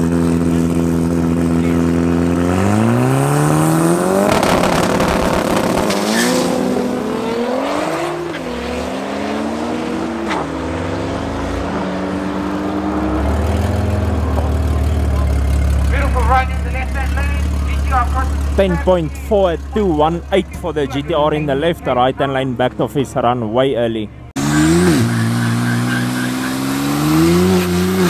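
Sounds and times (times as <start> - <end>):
deep engine hum: 0.0 - 23.0
race car engine roaring: 0.0 - 28.0.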